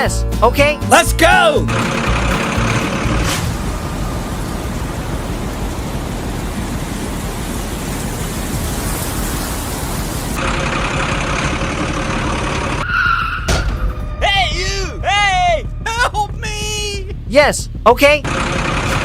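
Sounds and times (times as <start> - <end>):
vehicle running: 0.7 - 19.0.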